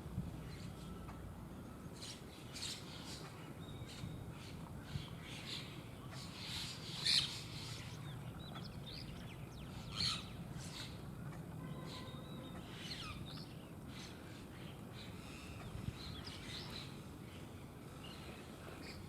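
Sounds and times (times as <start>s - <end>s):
low background noise: 0.0s - 19.0s
bird calls and chirps: 1.9s - 19.0s.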